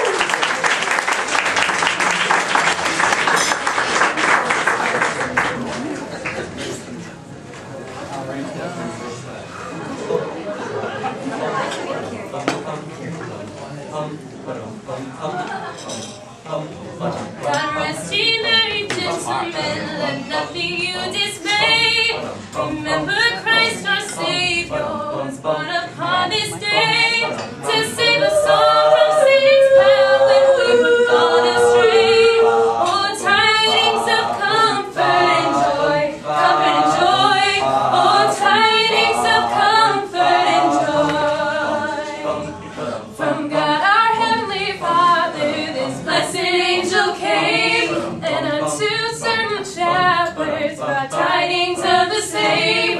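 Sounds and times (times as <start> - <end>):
mixed choir singing a cappella: 9.5 - 52.9.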